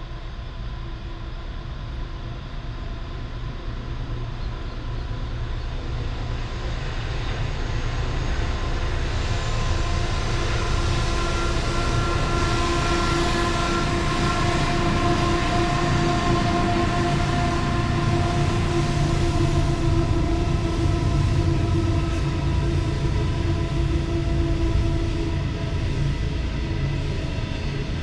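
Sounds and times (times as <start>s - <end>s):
diesel locomotive engine drone: 0.0s - 28.0s
low train rumble: 0.0s - 28.0s.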